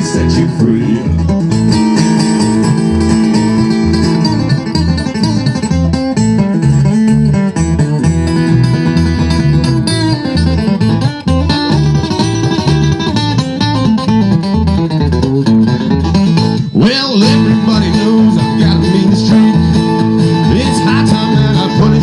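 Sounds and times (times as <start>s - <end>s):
bluegrass band playing: 0.0s - 22.0s
picked acoustic strings: 0.0s - 22.0s
repeating bass line: 0.0s - 22.0s.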